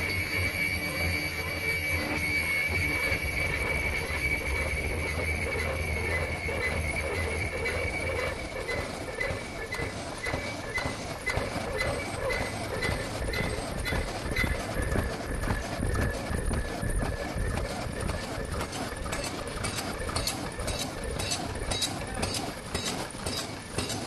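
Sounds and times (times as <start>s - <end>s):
cutting machine clacking: 0.0s - 24.0s
steady machine hum: 0.0s - 24.0s.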